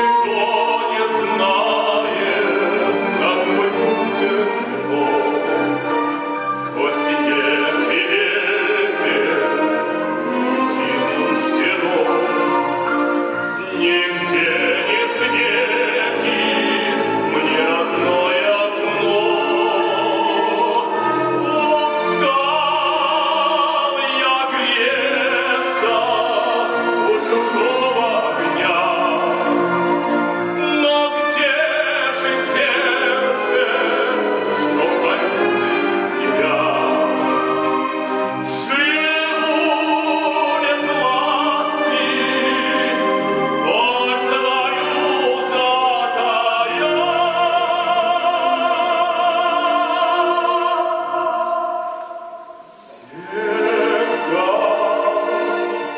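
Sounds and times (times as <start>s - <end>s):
operatic singing: 0.0s - 55.9s
orchestra playing: 0.0s - 55.9s.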